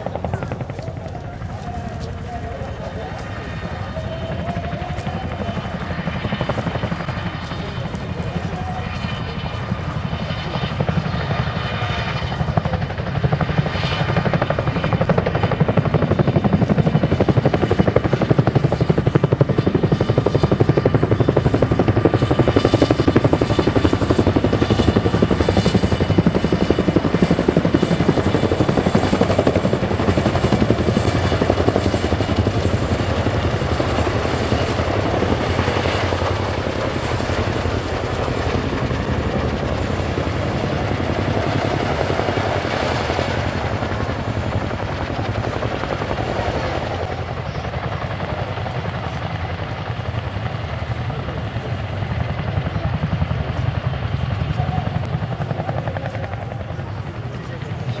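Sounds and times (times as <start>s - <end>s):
helicopter engines whining: 0.0s - 58.0s
helicopter rotor beat: 0.0s - 58.0s.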